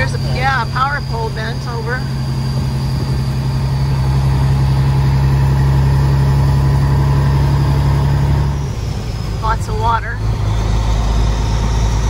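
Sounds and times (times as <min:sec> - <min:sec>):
diesel engine drone inside cab: 0:00.0 - 0:12.0.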